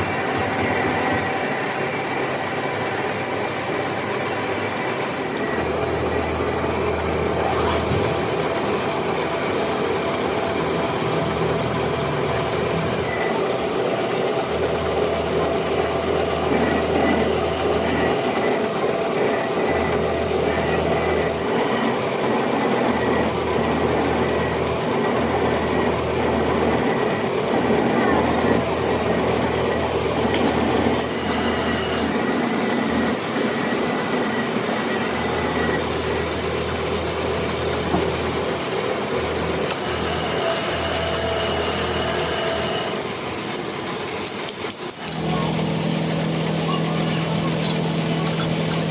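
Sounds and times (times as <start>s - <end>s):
metal lathe droning: 0.0s - 48.9s.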